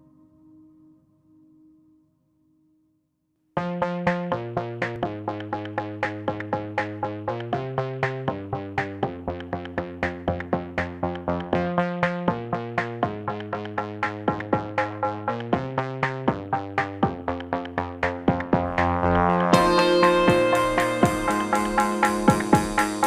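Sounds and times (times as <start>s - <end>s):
electronic music with plucked synth: 3.6s - 23.0s.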